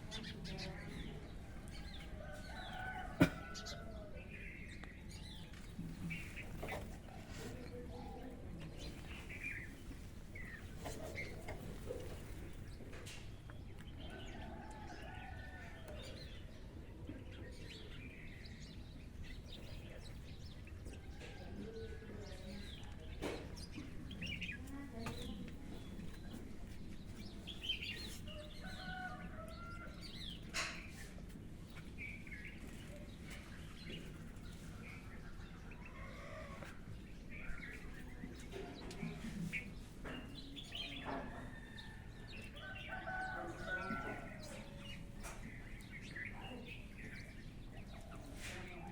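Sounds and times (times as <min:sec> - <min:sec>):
birds calling and chirping: 0:00.0 - 0:48.9.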